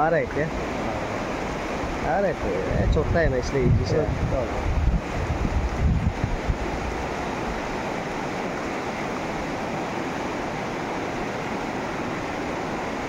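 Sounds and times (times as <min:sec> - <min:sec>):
rushing mountain river: 0:00.0 - 0:13.0.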